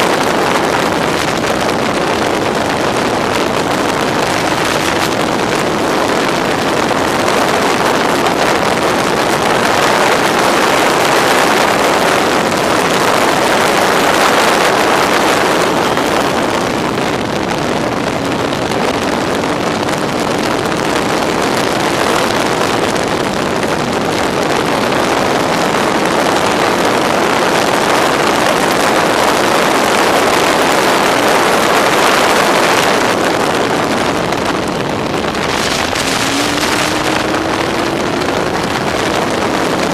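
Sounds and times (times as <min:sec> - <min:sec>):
motorcycle engine running hard: 0:00.0 - 0:39.9
wind rush on microphone: 0:00.0 - 0:39.9.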